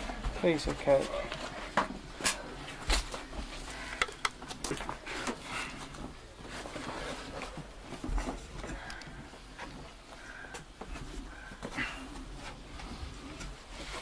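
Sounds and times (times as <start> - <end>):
clothing rustle: 0.0 - 14.0.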